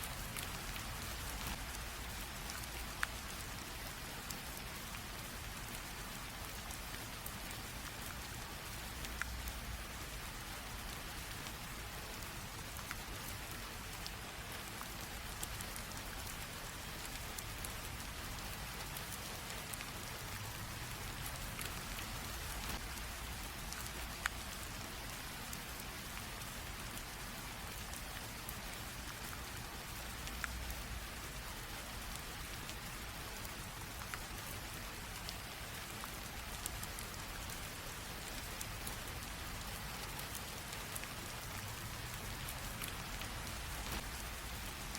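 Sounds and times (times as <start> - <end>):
light rain falling: 0.0 - 44.9.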